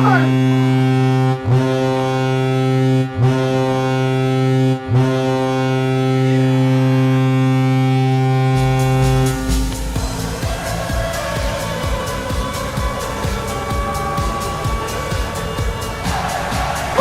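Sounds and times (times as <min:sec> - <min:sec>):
hockey goal horn blasts: 0:00.0 - 0:17.0
music: 0:00.0 - 0:17.0.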